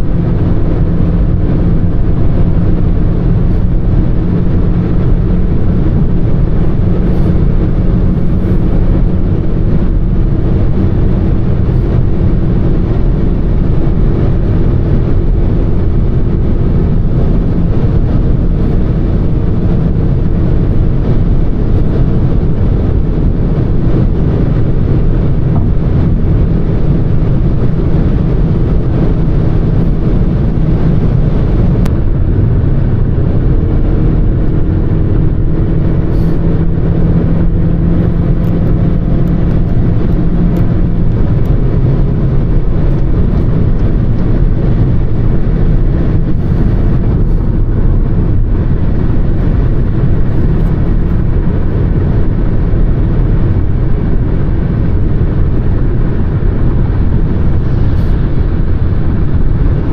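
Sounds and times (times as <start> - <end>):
car engine drone: 0.0 - 59.9
wind noise: 0.0 - 59.9.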